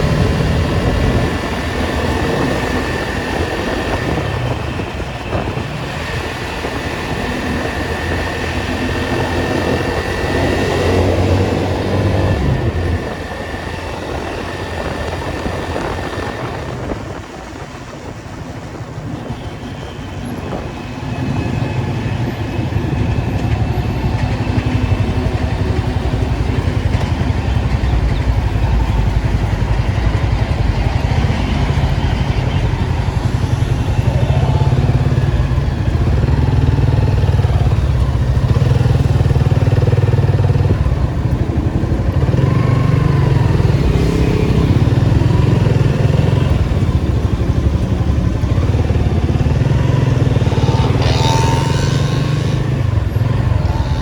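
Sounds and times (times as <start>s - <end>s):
car engine and exhaust running: 0.0s - 54.0s.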